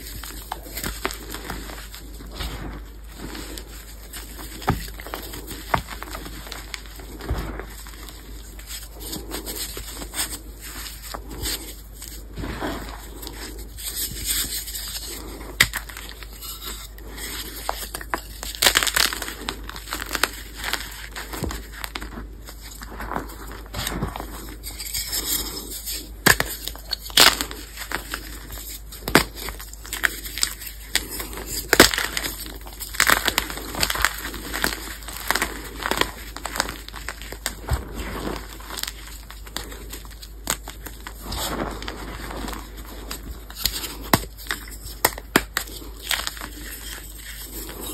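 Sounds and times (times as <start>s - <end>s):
chalk blocks crunching and snapping: 0.0s - 47.9s
powdery crumbling: 0.0s - 47.9s.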